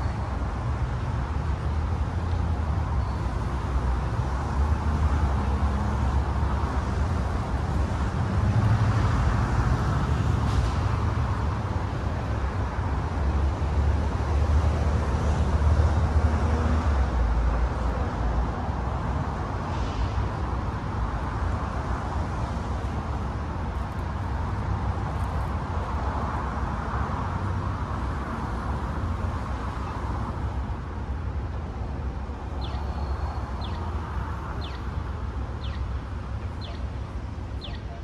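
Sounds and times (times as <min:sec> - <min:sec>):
low rumble of vehicles: 0:00.0 - 0:38.0.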